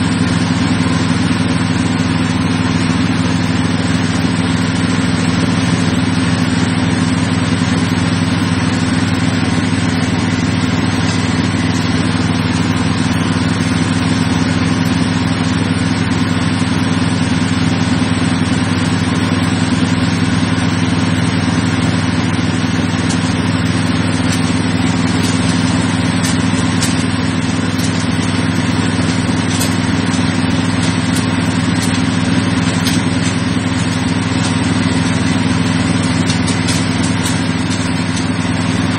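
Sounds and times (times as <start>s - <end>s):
engine running steadily: 0.0s - 38.9s
grinding mill hiss: 0.0s - 38.9s.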